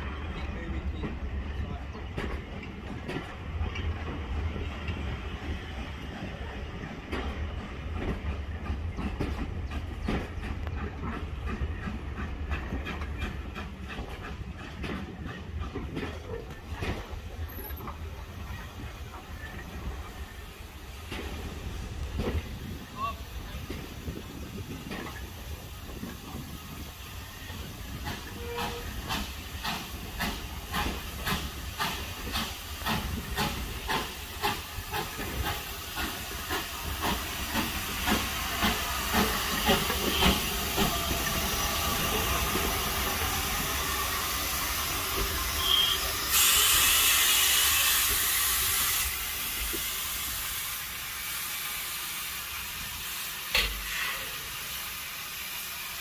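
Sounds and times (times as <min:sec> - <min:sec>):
rush of escaping steam: 0:00.0 - 0:56.0
steam hiss: 0:05.2 - 0:56.0.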